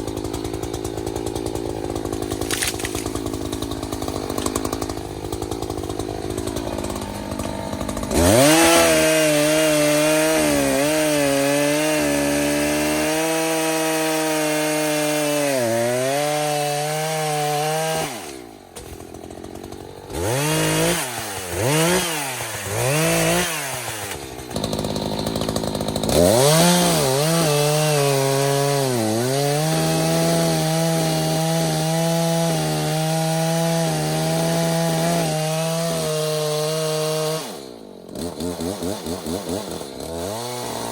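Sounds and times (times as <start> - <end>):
chainsaw cutting tree: 0.0 - 40.9.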